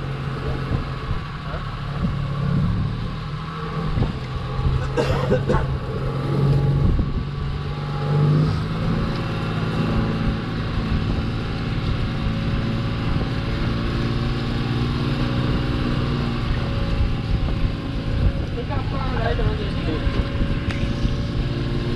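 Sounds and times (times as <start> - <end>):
boat engine running: 0.0 - 21.9.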